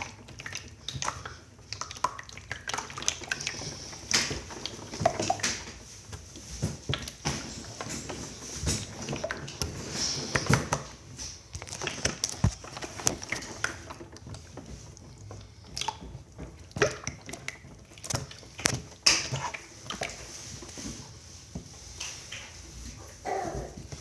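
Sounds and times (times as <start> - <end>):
hands squishing slime: 0.0 - 7.2, 8.8 - 20.8.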